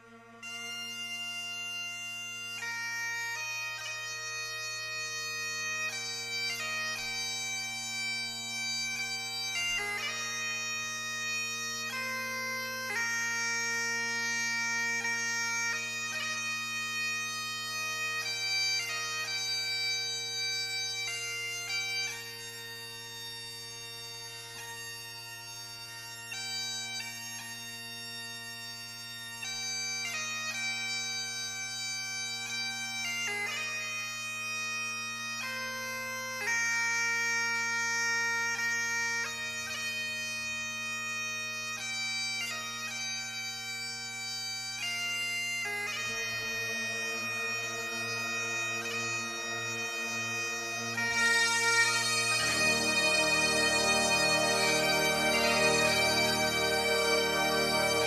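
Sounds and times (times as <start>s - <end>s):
bagpipe music: 0.0s - 58.0s.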